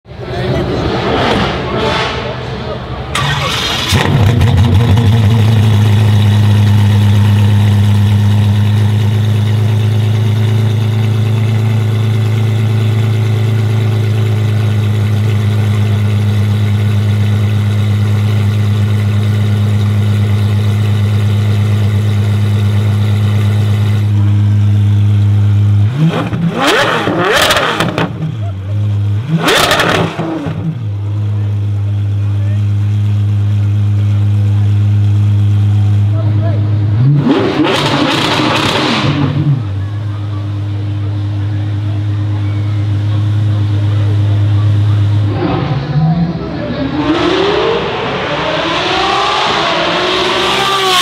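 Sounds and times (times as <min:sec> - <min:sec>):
car engine idling and revving: 0:00.1 - 0:51.0.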